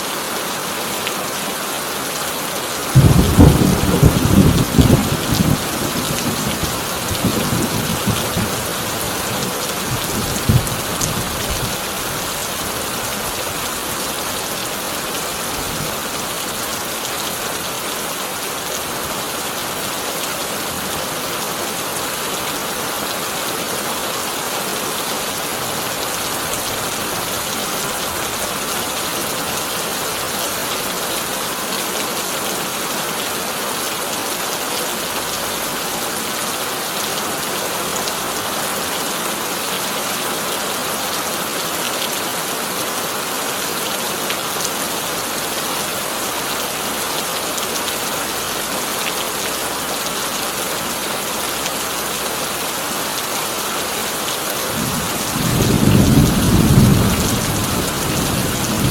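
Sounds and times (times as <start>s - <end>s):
heavy rain on a tin roof: 0.0s - 58.9s.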